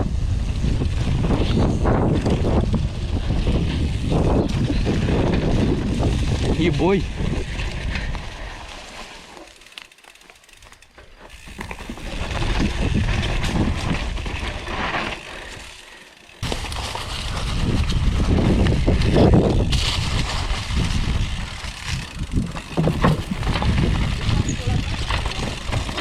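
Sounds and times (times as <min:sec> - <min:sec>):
wind rushing over microphone: 0:00.0 - 0:08.6, 0:12.0 - 0:14.7, 0:16.4 - 0:26.0
bike tyres and frame rattling: 0:00.0 - 0:26.0.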